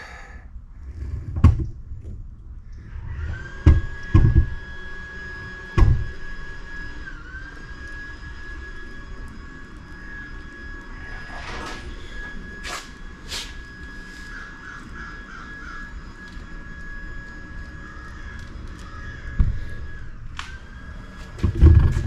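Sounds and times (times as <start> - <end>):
small motor whining: 2.6 - 22.0.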